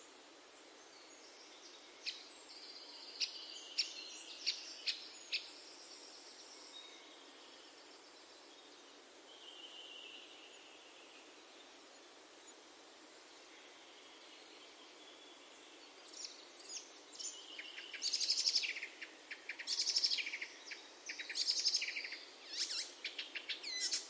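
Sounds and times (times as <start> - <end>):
faint steady hiss: 0.0 - 24.0
songbirds singing: 0.0 - 24.0.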